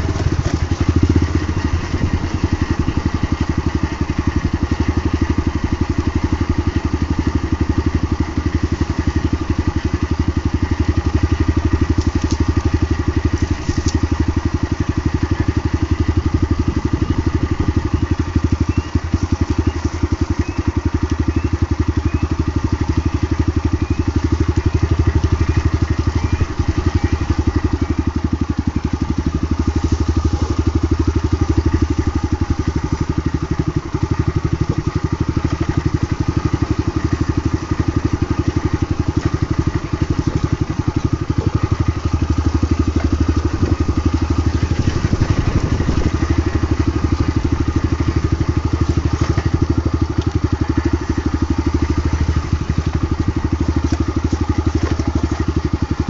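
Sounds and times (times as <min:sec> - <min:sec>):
motorcycle engine idling: 0:00.0 - 0:56.0
tyres crunching on dirt: 0:00.0 - 0:56.0.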